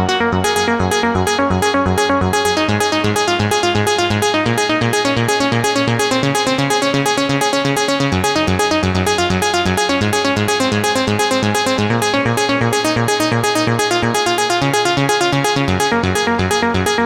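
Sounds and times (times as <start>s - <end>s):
synthesizer arpeggio: 0.0s - 17.0s
synthesizer bass line: 0.0s - 17.0s.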